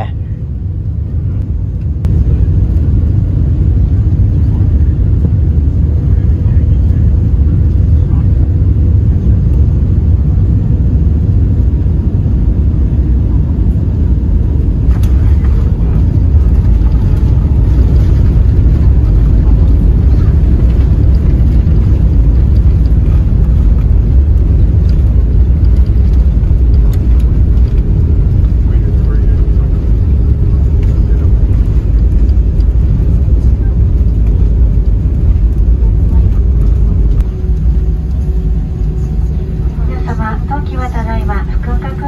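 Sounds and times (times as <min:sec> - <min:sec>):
airliner cabin rumble: 0:00.0 - 0:42.0.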